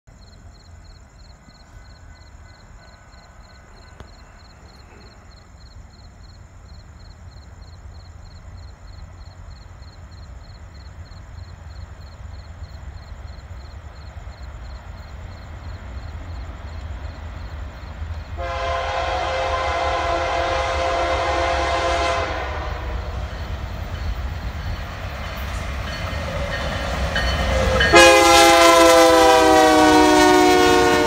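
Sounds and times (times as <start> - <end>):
freight train rumble: 0.1 - 31.0.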